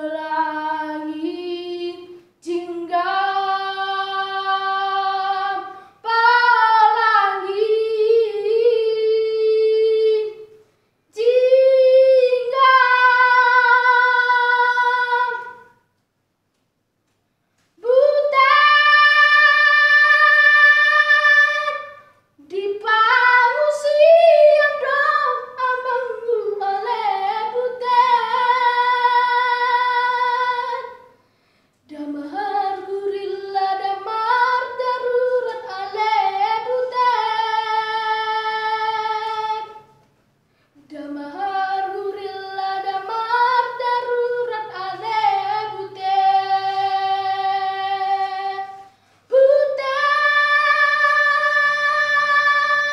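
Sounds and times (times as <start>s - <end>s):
boy singing: 0.0s - 10.5s, 11.1s - 15.8s, 17.8s - 31.1s, 31.9s - 40.0s, 40.8s - 52.9s.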